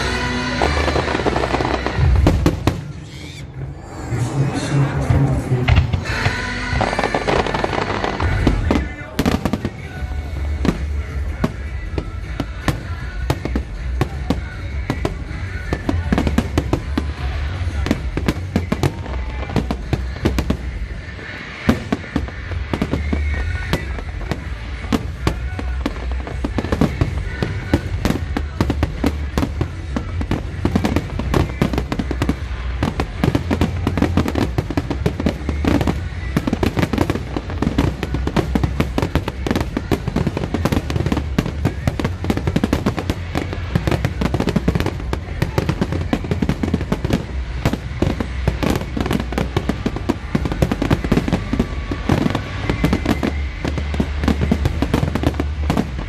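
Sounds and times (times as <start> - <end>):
firework bangs and crackles: 0.0 - 56.0.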